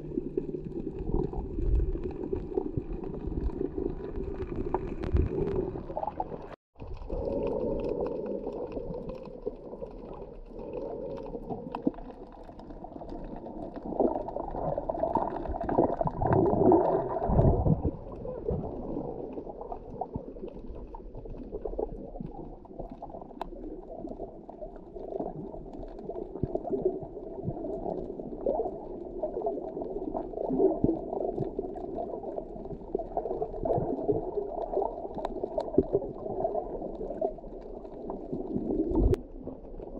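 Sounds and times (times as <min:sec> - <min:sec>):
churning underwater noise: 0:00.0 - 0:39.9.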